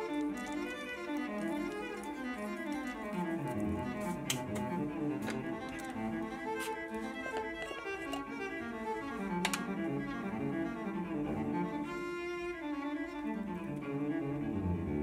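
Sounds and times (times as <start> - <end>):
solo cello melody: 0.0 - 15.0.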